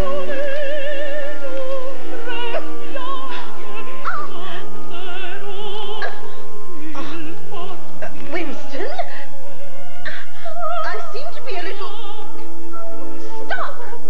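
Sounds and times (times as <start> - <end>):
operatic singing: 0.0 - 13.8
background music: 0.0 - 14.0.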